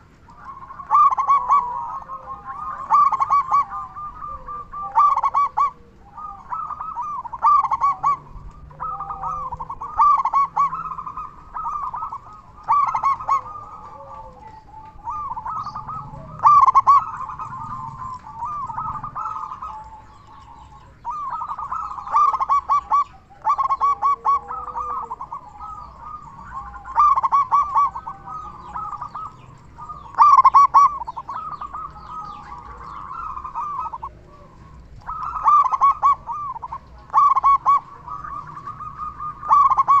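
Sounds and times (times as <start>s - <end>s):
dove cooing: 0.0s - 40.0s.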